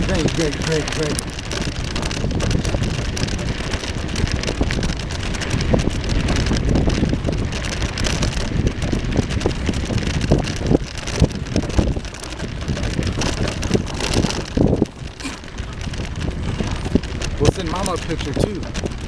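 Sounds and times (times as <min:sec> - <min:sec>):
bicycle rolling and rattling: 0:00.0 - 0:19.0
wind rushing over microphone: 0:00.0 - 0:19.0.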